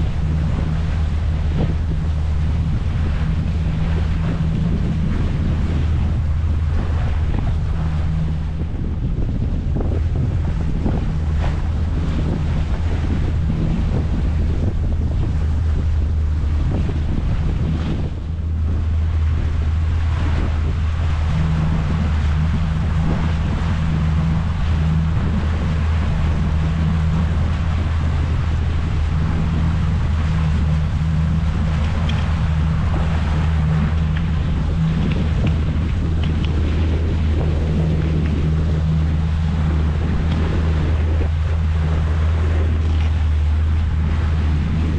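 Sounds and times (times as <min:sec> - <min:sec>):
steady low drone: 0:00.0 - 0:44.9
water rushing past hull: 0:00.0 - 0:44.9
wind buffeting microphone: 0:00.0 - 0:44.9.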